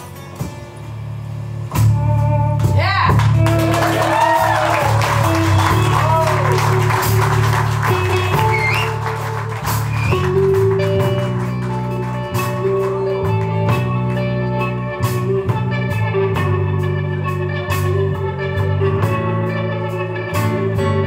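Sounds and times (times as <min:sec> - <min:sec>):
electric guitar: 0:00.0 - 0:21.0.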